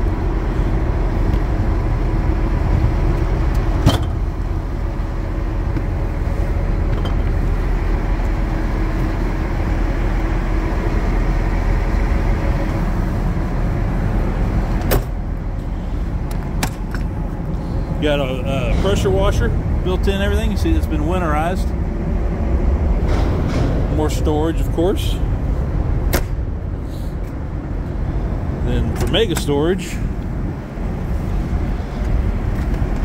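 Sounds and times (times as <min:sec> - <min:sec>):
vehicle engine idling: 0:00.0 - 0:33.0.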